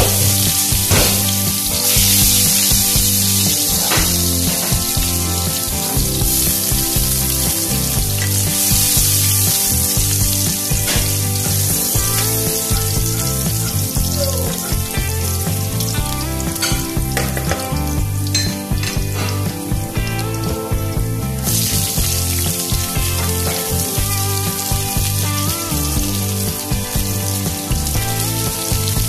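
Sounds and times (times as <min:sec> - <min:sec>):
background music: 0:00.0 - 0:29.0
garlic sizzling in hot oil: 0:00.0 - 0:29.0.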